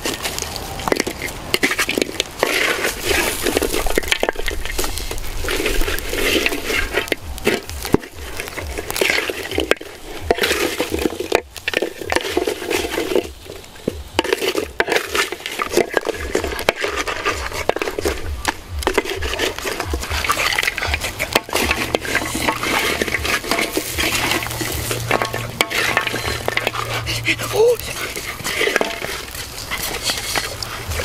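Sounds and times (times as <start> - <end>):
meat sizzling: 0.0 - 31.0
spatula scraping a metal wok: 1.0 - 31.0.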